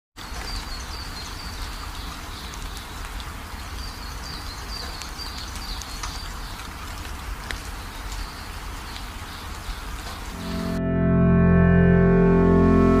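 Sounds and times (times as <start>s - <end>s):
steady rain-like hiss: 0.2s - 13.0s.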